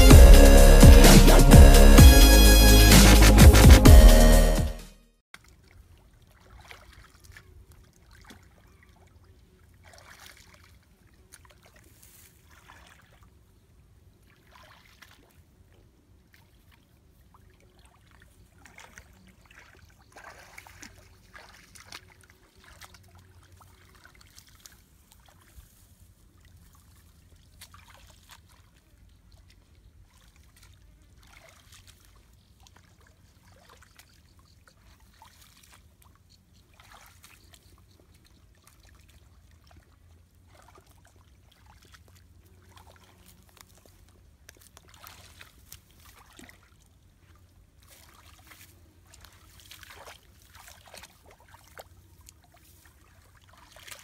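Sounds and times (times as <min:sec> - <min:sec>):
shallow water splashing: 0:05.4 - 0:54.0.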